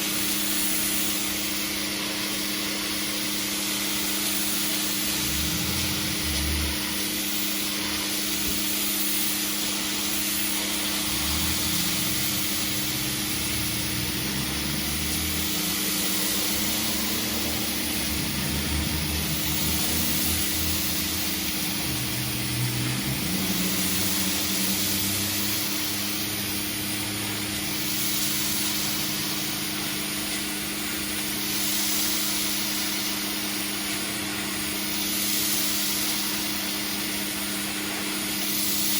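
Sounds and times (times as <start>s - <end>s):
pressure washer motor drone: 0.0s - 38.9s
water jet hissing on concrete: 0.0s - 38.9s.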